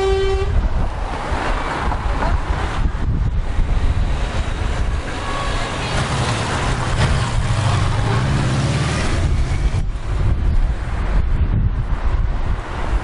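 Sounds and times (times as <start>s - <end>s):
cars driving past: 0.6s - 13.0s.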